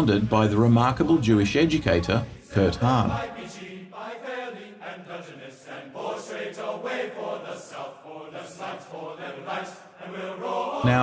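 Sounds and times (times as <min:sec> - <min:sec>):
chanting voices: 0:00.0 - 0:11.0.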